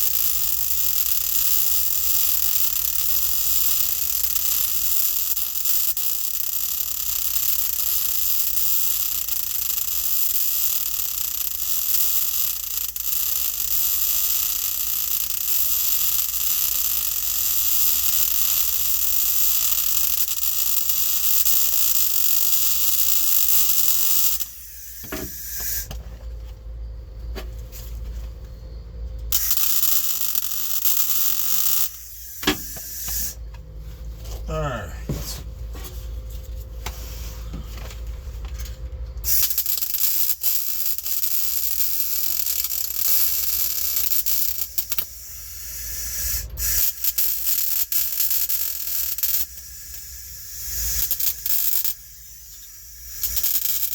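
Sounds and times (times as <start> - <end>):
welder hissing: 0.0 - 25.9, 29.3 - 33.4, 34.4 - 35.5, 39.3 - 53.9.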